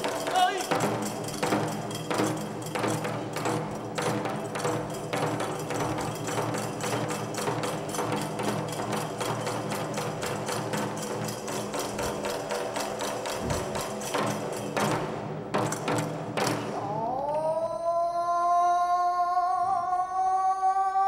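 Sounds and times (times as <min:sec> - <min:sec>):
taiko drum beat: 0:00.0 - 0:17.0.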